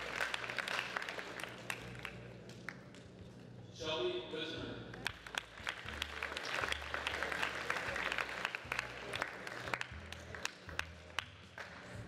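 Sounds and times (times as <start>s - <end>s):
crowd applauding: 0.0s - 2.8s, 5.0s - 12.0s.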